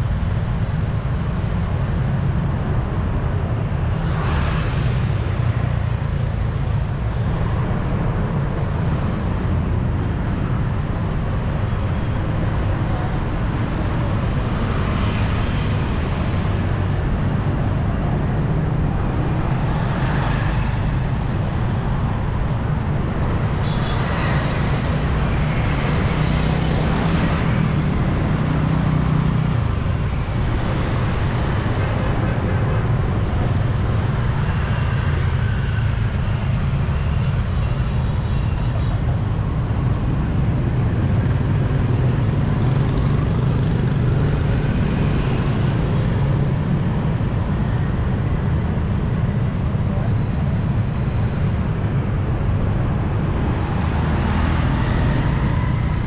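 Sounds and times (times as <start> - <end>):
vehicles passing close by: 0.0 - 56.0.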